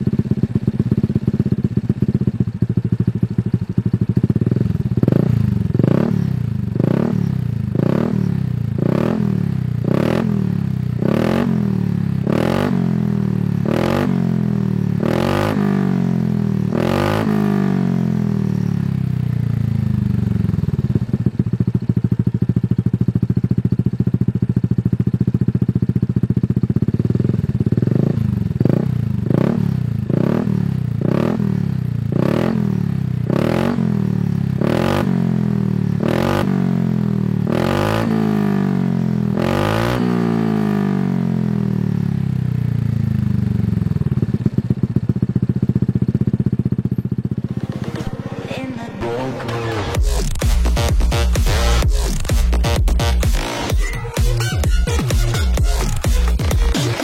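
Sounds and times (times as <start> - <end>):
engine revving and idling: 4.4 - 24.9, 26.7 - 57.0.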